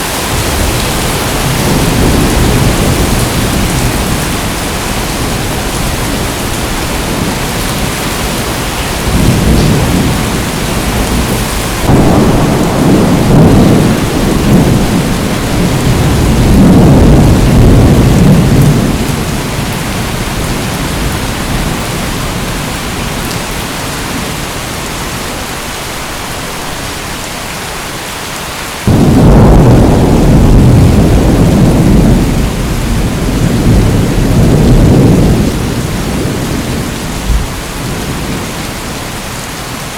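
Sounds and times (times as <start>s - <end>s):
low rolling thunder: 0.0s - 23.4s, 28.9s - 39.3s
heavy rain: 0.0s - 39.9s.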